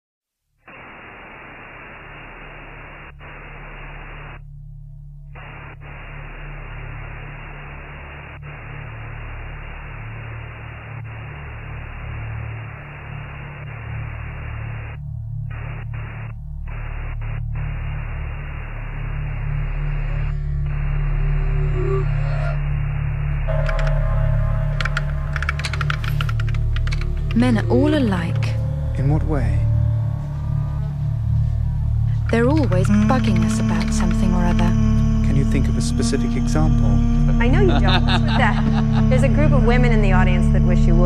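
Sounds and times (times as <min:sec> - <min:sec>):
tv static hiss: 0:00.5 - 0:28.5, 0:30.8 - 0:41.0
low steady hum: 0:00.7 - 0:41.0.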